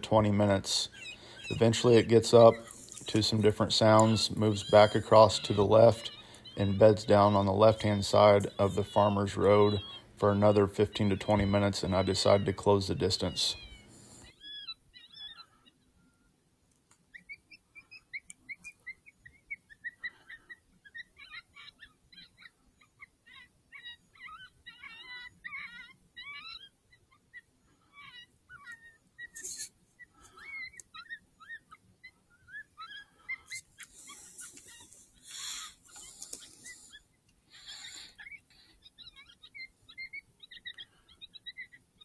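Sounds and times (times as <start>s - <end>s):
coyote yips and whines: 0.8s - 16.4s, 17.0s - 42.0s.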